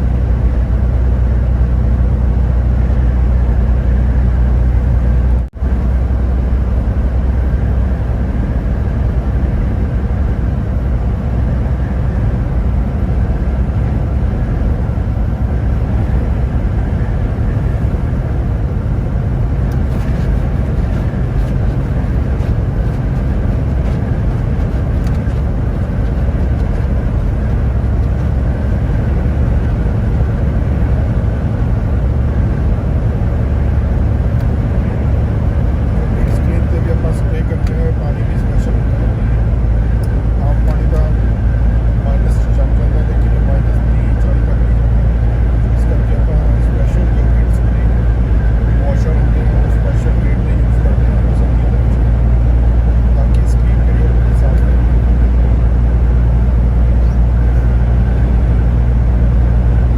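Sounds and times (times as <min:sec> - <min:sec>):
vehicle rumbling on the move: 0:00.0 - 0:59.9.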